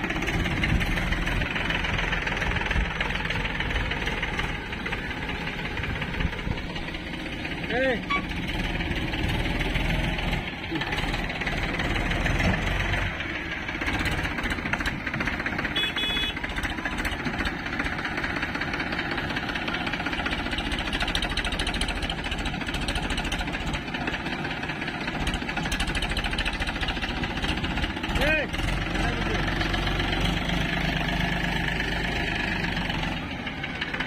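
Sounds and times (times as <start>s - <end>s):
backhoe diesel engine running: 0.0s - 34.0s
tractor diesel engine under load: 0.0s - 34.0s.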